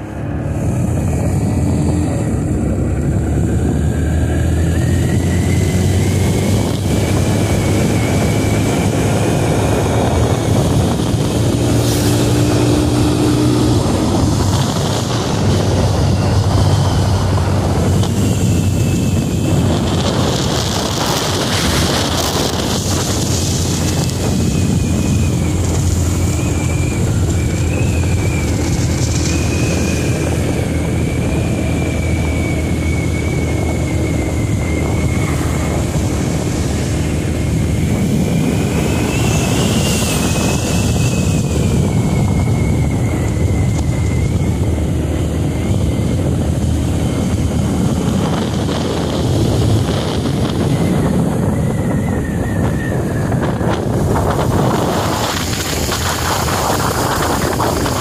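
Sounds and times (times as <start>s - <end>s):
motorcycle engine rumble: 0.0s - 58.0s
wind buffeting microphone: 0.0s - 58.0s.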